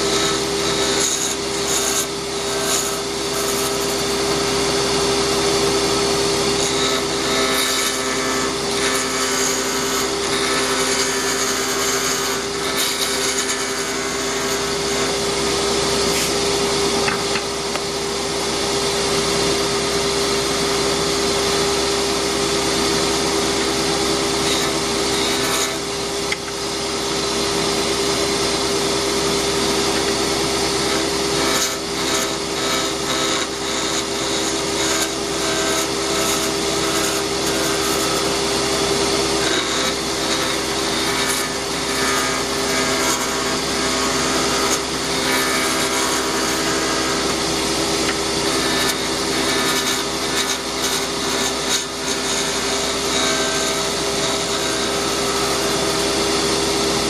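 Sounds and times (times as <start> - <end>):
tool scraping spinning wood: 0.0 - 57.0
wood lathe motor hum: 0.0 - 57.0.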